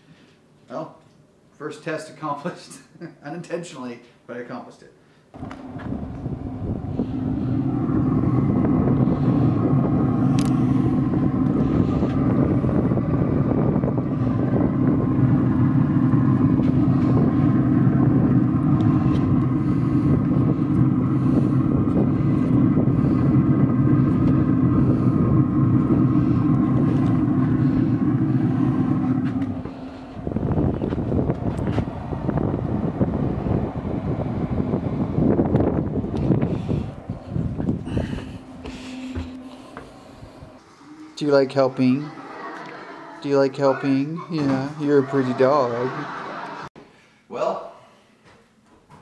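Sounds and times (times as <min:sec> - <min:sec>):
loud motor hum with whine: 0:05.4 - 0:46.7.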